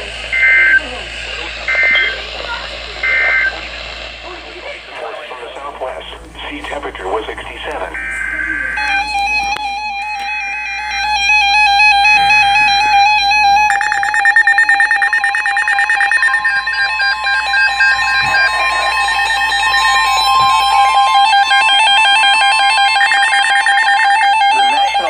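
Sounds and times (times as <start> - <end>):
steady warning alert tone: 0.0 - 25.0
warbling digital data bursts: 0.0 - 25.0.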